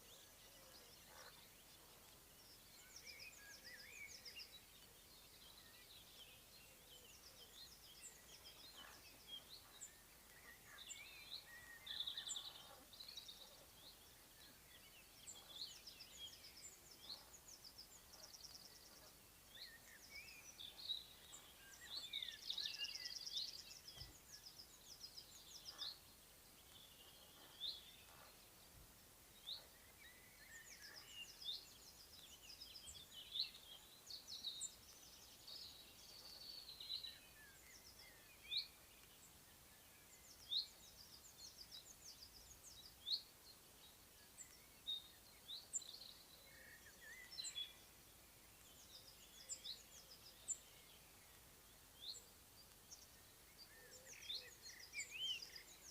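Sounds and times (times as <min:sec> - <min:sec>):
low outdoor hiss: 0:00.0 - 0:55.9
songbirds chirping and whistling: 0:00.0 - 0:55.9.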